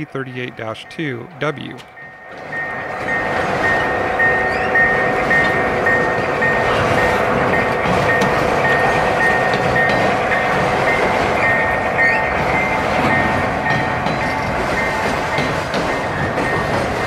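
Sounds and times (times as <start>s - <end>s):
high ringing tone: 0.0s - 15.1s
model train wheels and motors running: 0.0s - 17.0s.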